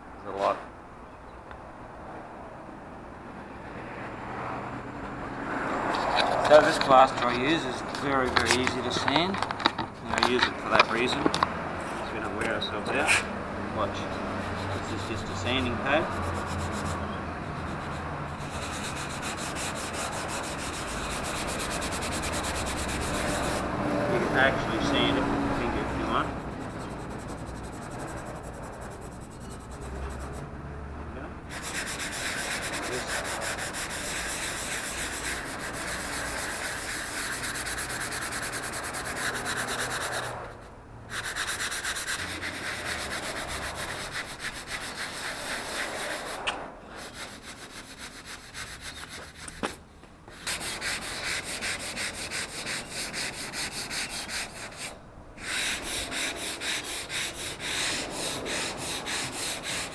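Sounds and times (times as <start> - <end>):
sanding pad scratching plaster: 6.0 - 9.1, 10.2 - 11.2, 13.8 - 30.4, 31.5 - 59.9.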